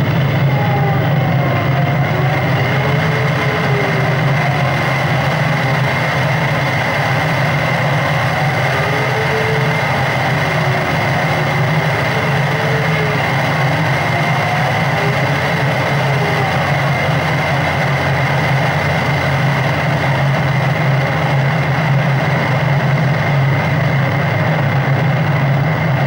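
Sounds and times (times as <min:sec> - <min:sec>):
electronic drone with low hum: 0:00.0 - 0:26.0.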